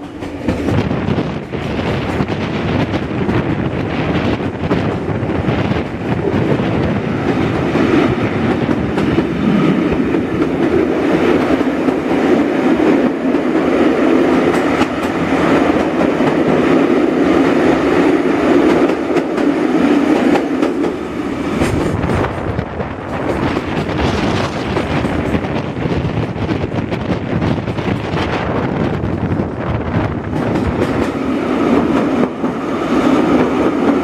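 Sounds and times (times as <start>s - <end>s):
train wheels clattering over rails: 0.0s - 34.0s.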